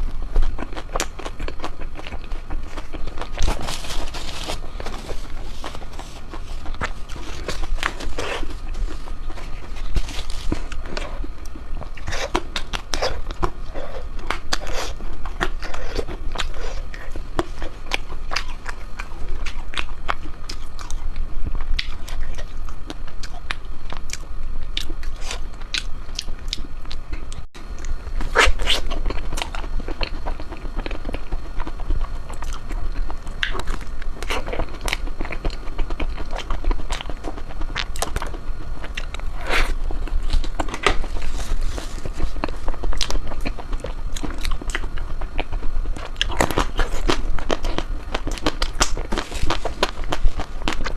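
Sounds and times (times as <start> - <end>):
person chewing ice cream: 0.0 - 50.9.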